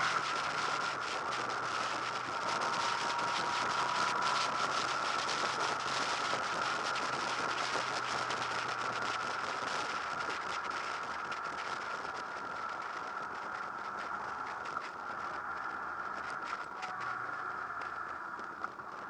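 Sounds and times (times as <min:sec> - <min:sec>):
motorcycle engine drone: 0:00.0 - 0:19.0
wind rushing over microphone: 0:00.0 - 0:19.0.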